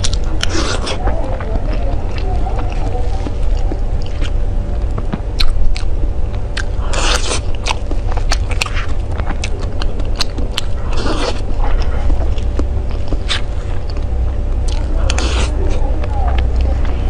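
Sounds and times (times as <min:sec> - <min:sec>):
biting and chewing clicks: 0:00.0 - 0:17.0
low hum: 0:00.0 - 0:17.0
scraping crunching sounds: 0:00.0 - 0:17.0.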